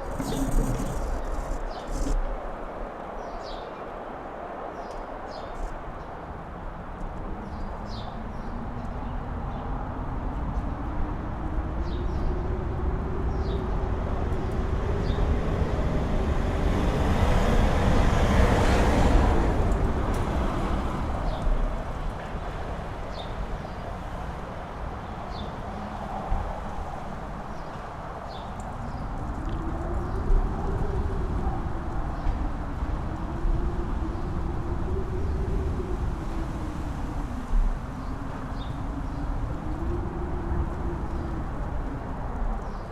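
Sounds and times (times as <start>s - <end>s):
wind rumbling and howling: 0.0s - 42.9s.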